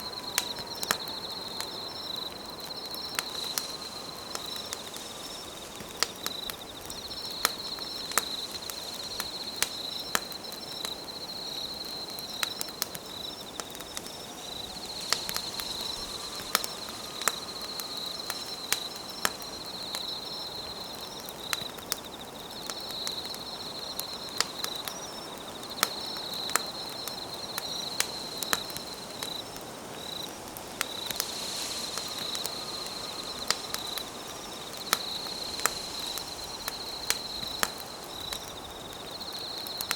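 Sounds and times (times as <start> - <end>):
campfire crackling and popping: 0.0 - 39.9
insects trilling: 0.0 - 39.9.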